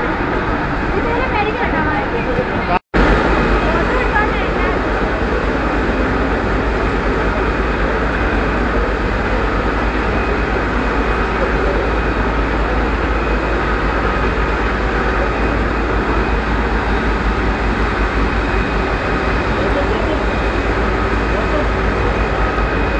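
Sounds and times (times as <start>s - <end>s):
low motor hum: 0.0s - 22.9s
machines mechanical din: 0.0s - 22.9s.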